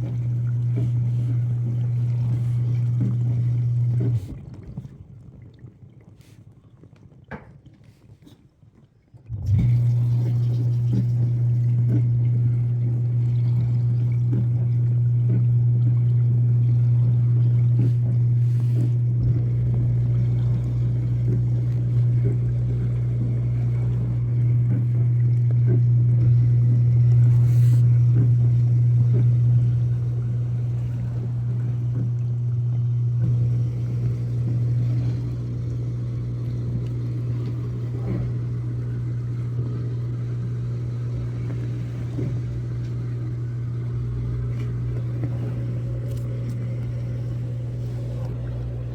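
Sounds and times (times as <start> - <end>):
dishwasher pump humming: 0.0 - 48.9.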